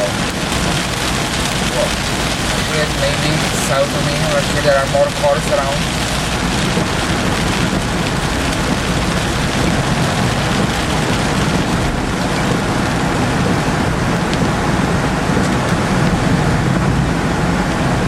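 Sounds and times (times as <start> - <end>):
car road and engine noise: 0.0 - 18.0
rain pattering on car: 0.0 - 18.0.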